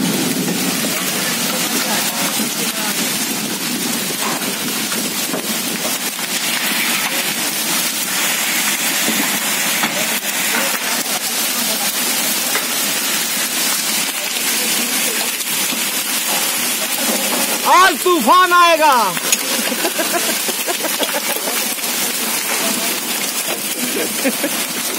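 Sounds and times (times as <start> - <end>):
hail and rain on concrete: 0.0 - 24.9.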